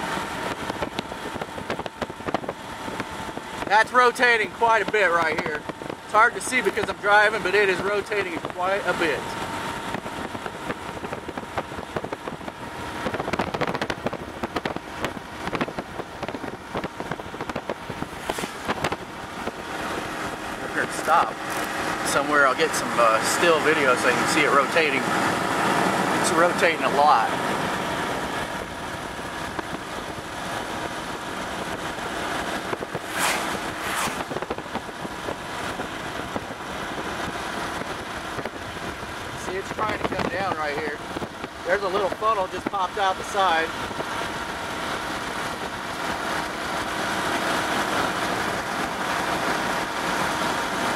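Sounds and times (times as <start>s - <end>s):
car road noise: 0.0s - 50.9s.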